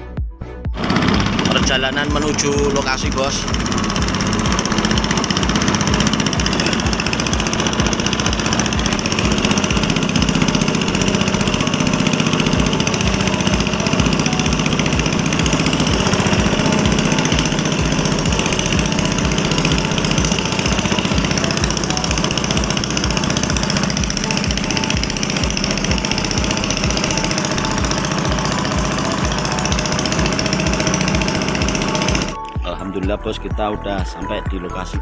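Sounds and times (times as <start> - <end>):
small boat engine running: 0.7 - 32.6.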